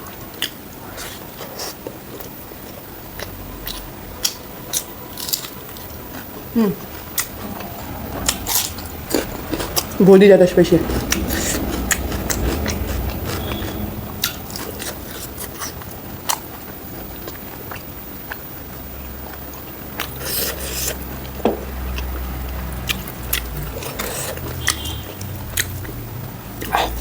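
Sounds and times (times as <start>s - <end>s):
chewing with wet mouth smacks: 0.0s - 10.0s, 10.8s - 27.0s.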